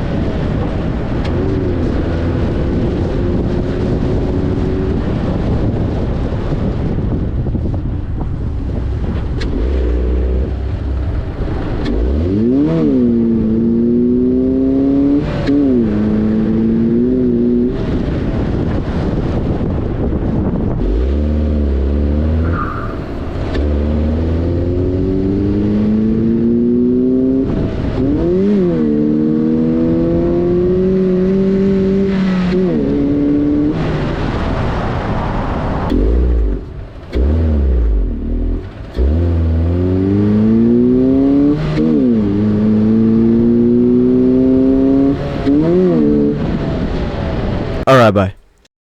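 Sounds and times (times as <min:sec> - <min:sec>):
car engine accelerating hard: 0:00.0 - 0:47.8.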